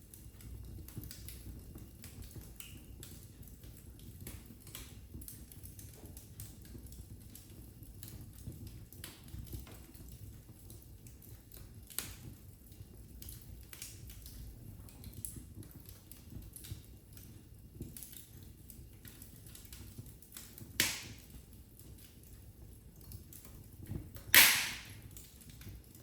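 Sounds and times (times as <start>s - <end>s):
fire pops and snaps: 0.0s - 26.0s
fire rumbling: 0.0s - 26.0s.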